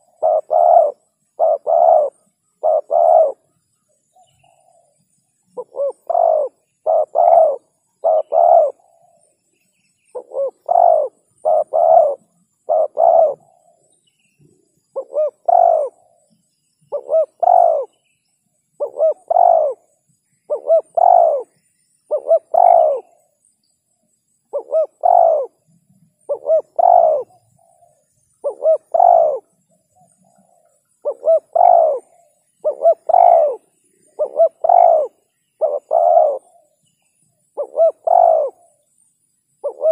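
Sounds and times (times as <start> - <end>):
dove cooing: 0.0 - 3.6, 4.2 - 9.3, 10.1 - 18.0, 18.8 - 23.4, 24.5 - 36.8, 37.5 - 38.8, 39.6 - 39.9.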